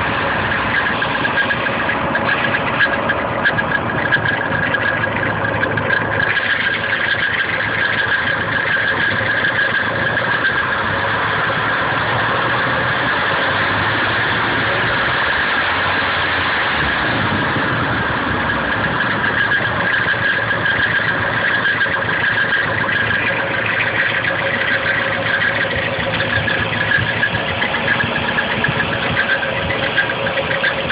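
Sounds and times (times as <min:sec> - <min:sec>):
car engine idling: 0:00.0 - 0:30.9
fine engine rattle: 0:00.0 - 0:30.9
high squealing tone: 0:00.0 - 0:30.9.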